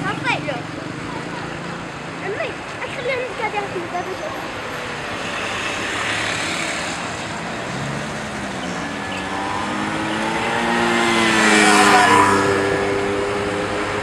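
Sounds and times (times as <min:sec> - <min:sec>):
car engine approaching: 0:00.0 - 0:14.0
steady outdoor noise: 0:00.0 - 0:14.0.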